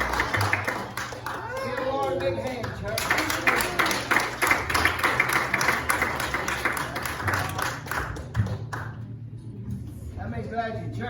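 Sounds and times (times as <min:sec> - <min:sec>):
congregation clapping: 0:00.0 - 0:09.1.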